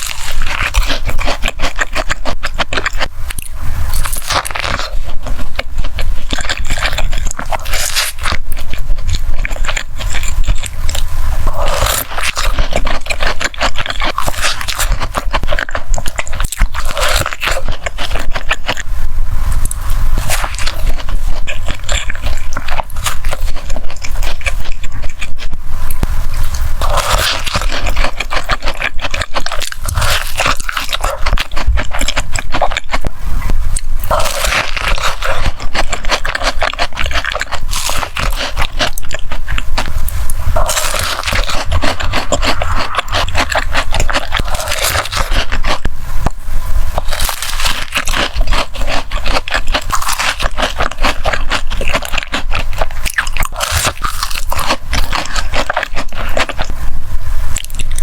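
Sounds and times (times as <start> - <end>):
chewing sweets and cake: 0.0 - 58.0.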